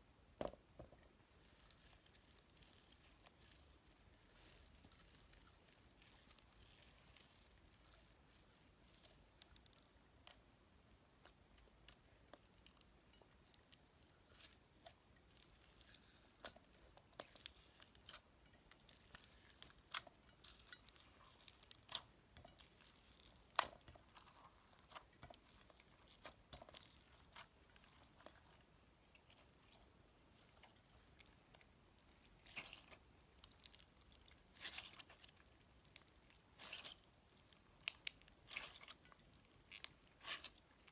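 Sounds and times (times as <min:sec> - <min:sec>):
slime crunching and popping: 0:01.4 - 0:10.4, 0:11.2 - 0:40.9.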